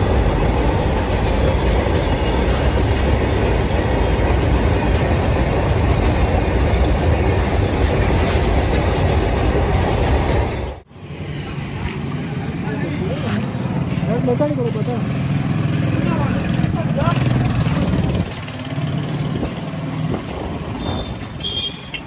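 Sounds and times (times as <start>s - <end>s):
wheels clattering on rails: 0.0s - 10.8s, 13.0s - 22.0s
train rumbling: 0.0s - 22.0s.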